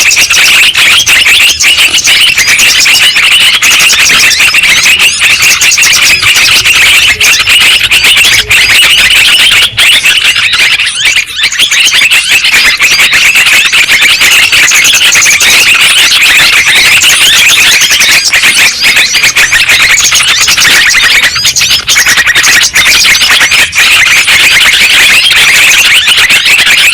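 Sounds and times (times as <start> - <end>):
bulbul chattering calls: 0.0 - 26.9.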